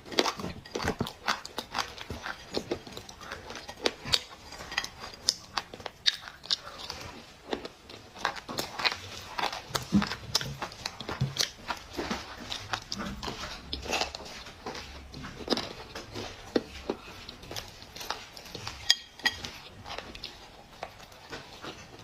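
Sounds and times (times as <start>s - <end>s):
clay being chewed: 0.0s - 22.0s.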